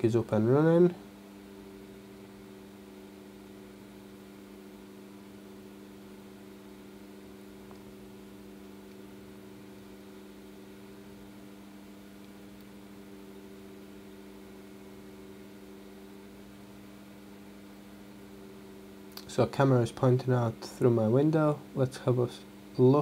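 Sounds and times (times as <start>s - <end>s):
low hum of fixed tones: 0.0s - 23.0s.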